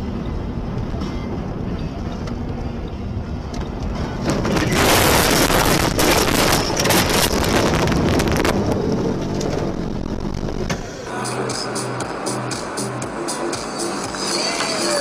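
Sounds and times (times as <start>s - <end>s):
car road noise: 0.0s - 15.0s.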